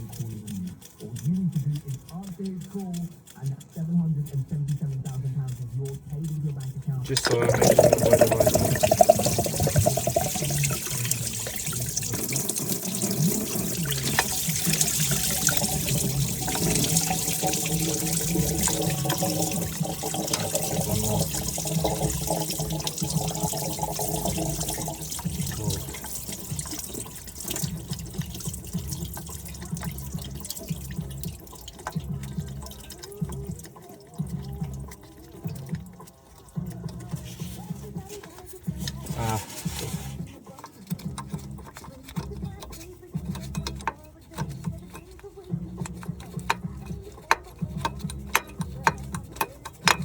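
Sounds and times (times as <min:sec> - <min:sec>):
coolant splashing and trickling: 0:00.0 - 0:50.0.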